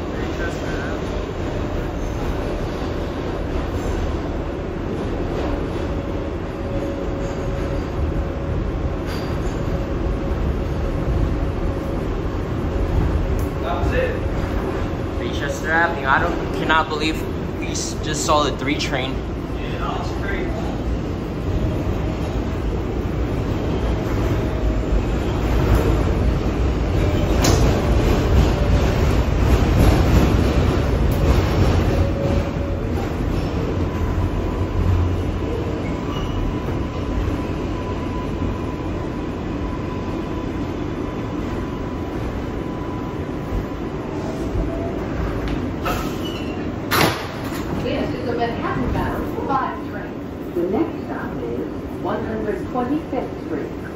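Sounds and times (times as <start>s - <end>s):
subway wheels rumbling on rail: 0.0s - 53.9s.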